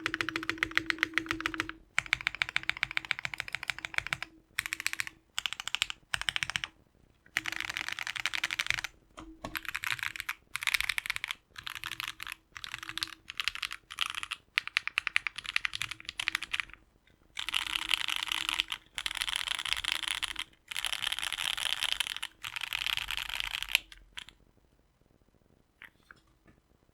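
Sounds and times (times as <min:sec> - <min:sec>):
mechanical keyboard typing: 0:00.0 - 0:06.7, 0:07.3 - 0:16.8, 0:17.4 - 0:24.3.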